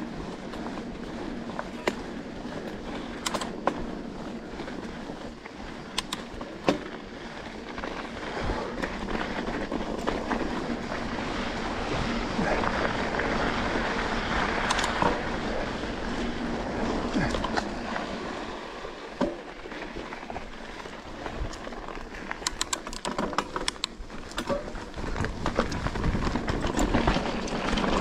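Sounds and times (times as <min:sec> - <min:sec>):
bike knocks and rattles: 0:00.0 - 0:13.6, 0:18.8 - 0:28.0
bike tyres rolling on dirt: 0:00.0 - 0:28.0.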